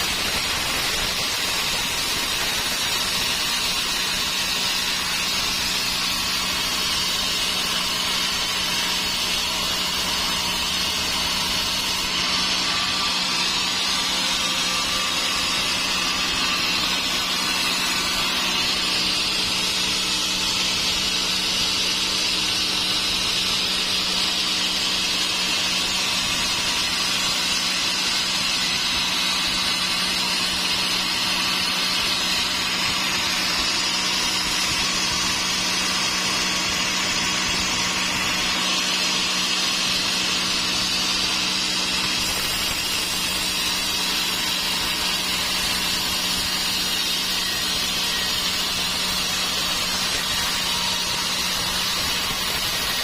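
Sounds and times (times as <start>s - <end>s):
sawmill saw hissing: 0.0s - 53.0s.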